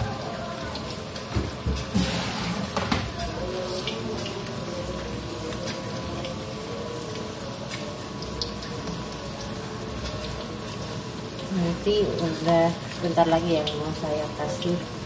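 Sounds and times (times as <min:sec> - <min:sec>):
broth simmering and bubbling: 0:00.0 - 0:15.0
oil frying in a wok: 0:00.0 - 0:15.0.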